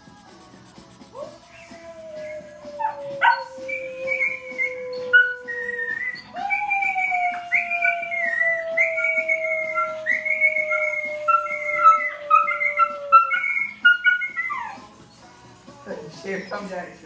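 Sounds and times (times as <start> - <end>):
background music: 0.0 - 17.0
puppy howling: 1.1 - 14.9.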